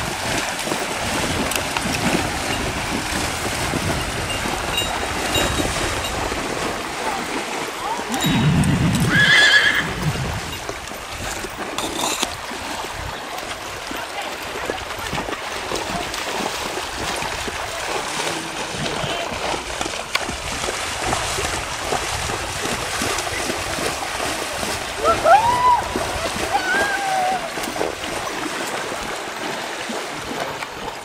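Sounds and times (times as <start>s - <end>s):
horses splashing through water: 0.0s - 31.0s.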